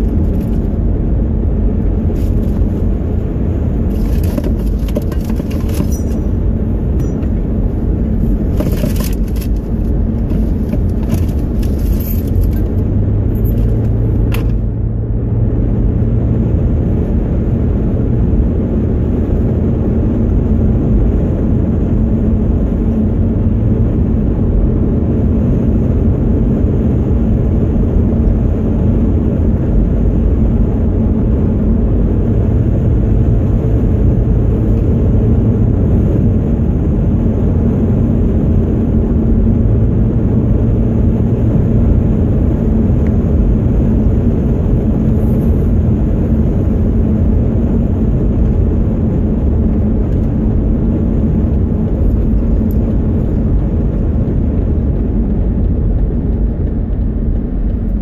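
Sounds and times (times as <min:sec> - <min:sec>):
car engine drone inside cabin: 0:00.0 - 0:58.0
tyre and road rumble: 0:00.0 - 0:58.0.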